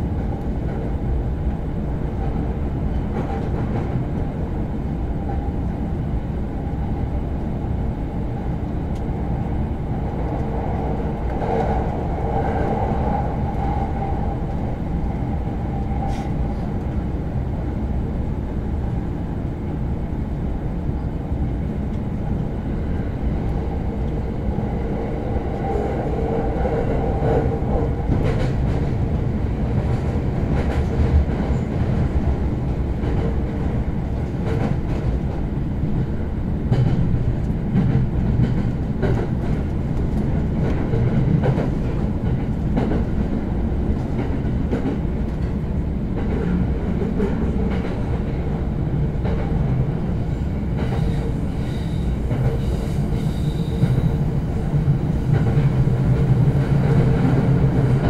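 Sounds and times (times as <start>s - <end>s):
low rumble of train wheels: 0.0s - 58.0s.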